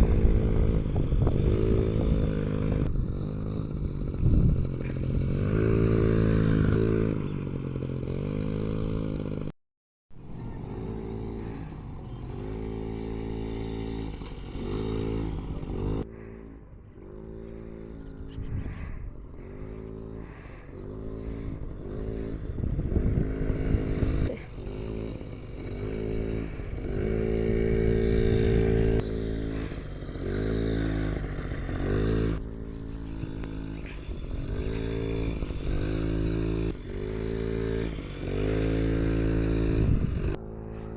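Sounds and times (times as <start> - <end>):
two-stroke motorcycle engine revving: 0.0 - 40.9.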